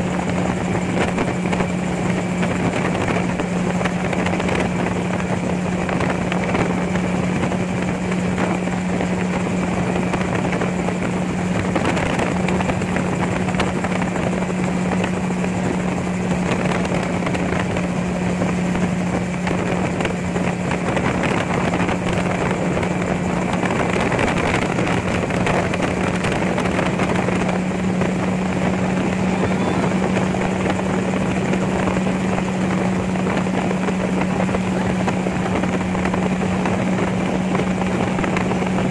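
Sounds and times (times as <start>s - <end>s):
gyrocopter engine droning: 0.0s - 38.9s
wind rushing: 0.0s - 38.9s.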